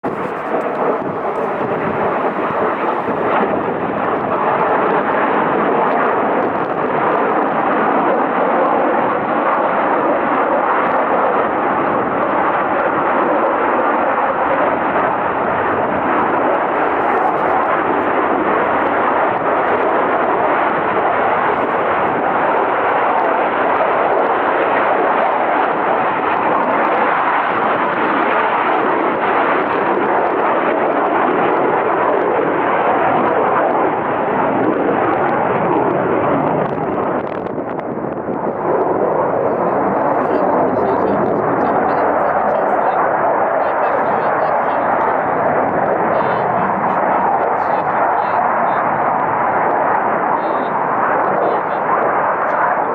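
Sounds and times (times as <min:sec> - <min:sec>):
jet engine roar: 0:00.0 - 0:52.9.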